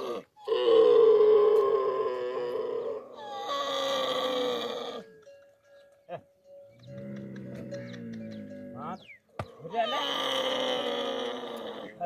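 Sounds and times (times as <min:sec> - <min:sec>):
camel bellowing: 0:00.0 - 0:12.0.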